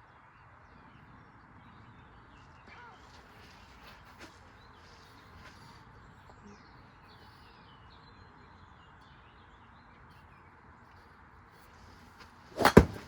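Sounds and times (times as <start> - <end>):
faint bird chirping: 0.0 - 11.2.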